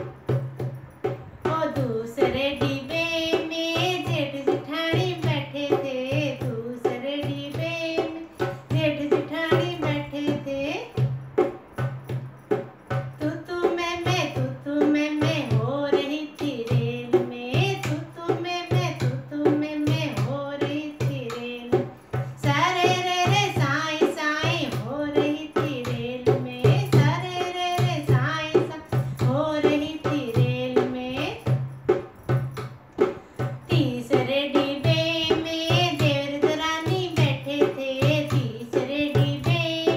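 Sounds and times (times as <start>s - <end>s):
woman singing: 1.1s - 11.2s, 12.9s - 31.7s, 33.4s - 39.9s.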